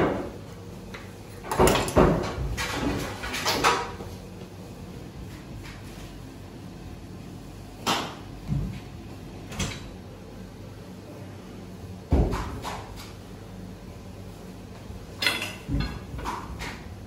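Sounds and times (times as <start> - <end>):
kitchen hum: 0.0 - 17.0.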